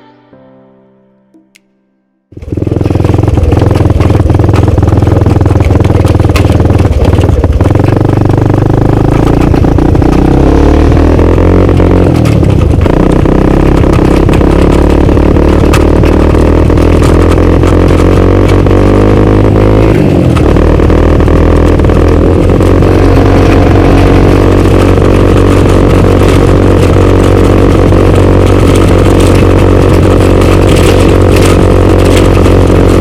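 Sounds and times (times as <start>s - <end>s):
small vehicle engine running: 2.3s - 33.0s.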